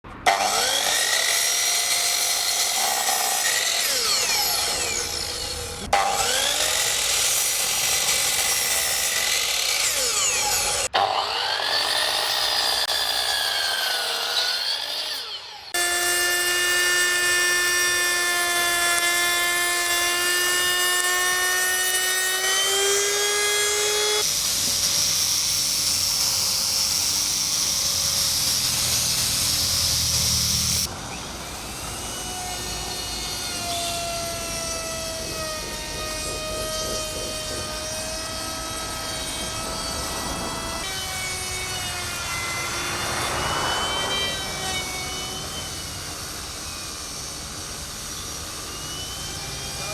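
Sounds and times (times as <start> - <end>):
power saw cutting wood: 0.1 - 49.9.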